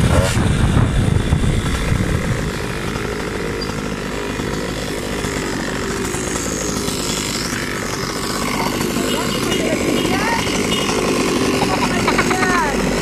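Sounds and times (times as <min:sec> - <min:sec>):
small two-stroke engine buzzing: 0:00.0 - 0:13.0.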